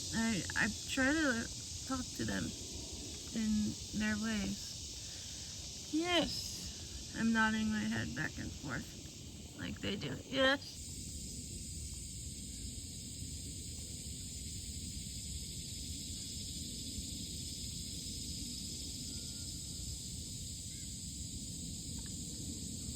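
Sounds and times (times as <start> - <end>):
constant high hiss: 0.0 - 22.9.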